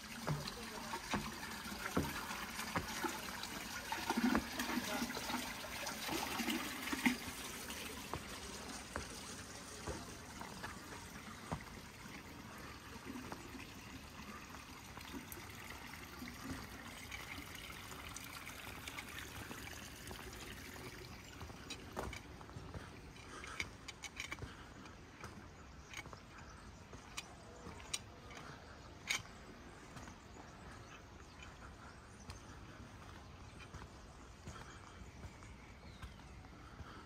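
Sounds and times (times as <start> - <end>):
fountain water trickling: 0.0 - 37.0.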